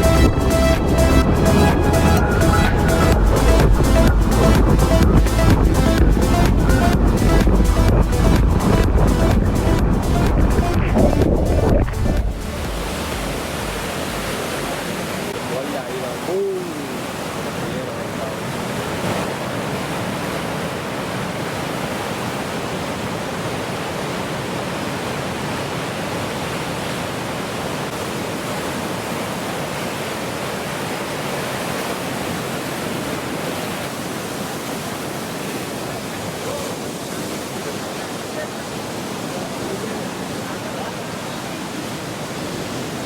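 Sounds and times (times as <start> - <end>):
surf and churning water: 0.0 - 43.0.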